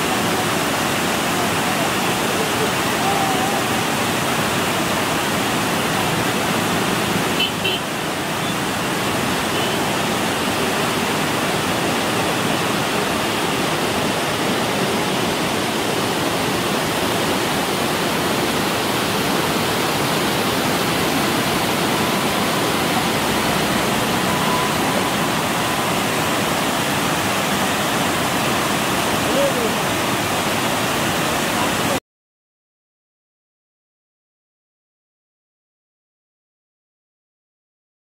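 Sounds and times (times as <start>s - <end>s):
water rushing through sluice gate: 0.0s - 32.0s.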